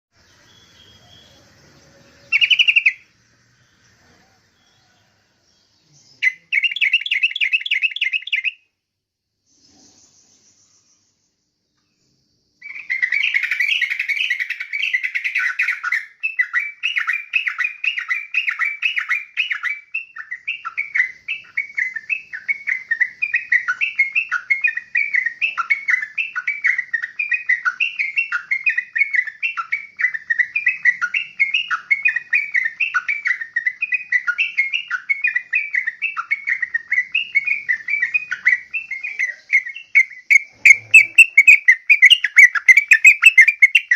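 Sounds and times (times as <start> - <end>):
bird chirping repeatedly: 0.1 - 8.8, 9.5 - 43.9.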